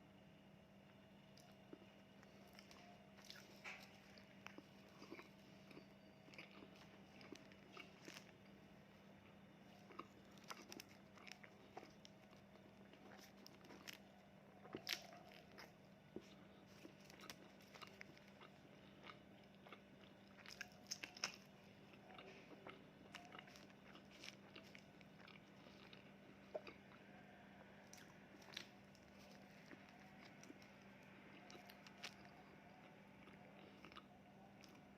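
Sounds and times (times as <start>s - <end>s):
faint steady hum: 0.0s - 34.9s
crunchy bites and chewing: 1.3s - 34.9s.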